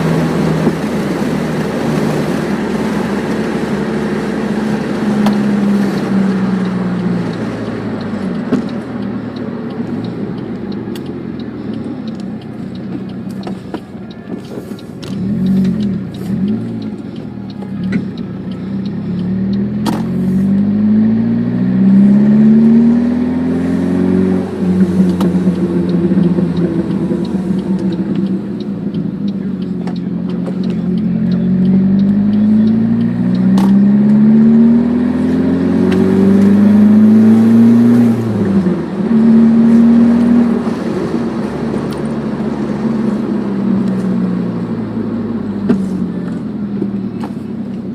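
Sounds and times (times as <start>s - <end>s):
engine revving: 0.0s - 13.6s, 14.4s - 47.9s
car engine accelerating: 0.0s - 47.9s.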